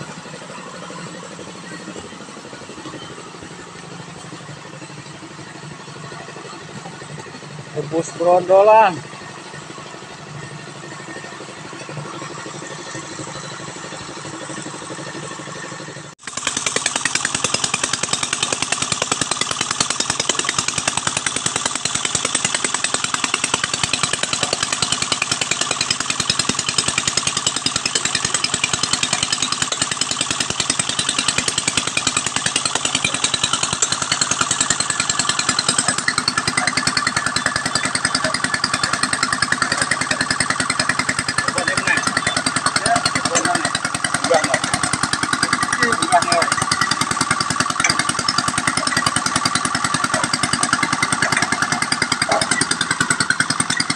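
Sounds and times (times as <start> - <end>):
engine with fast even pulse: 0.0 - 53.9.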